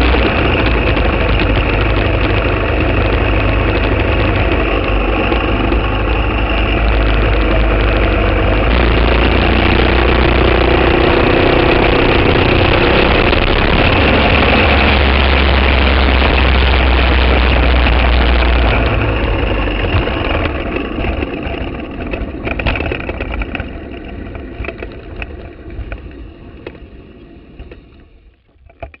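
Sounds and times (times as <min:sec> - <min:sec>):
wind on microphone: 0:00.0 - 0:28.3
kart engine running: 0:00.0 - 0:29.0.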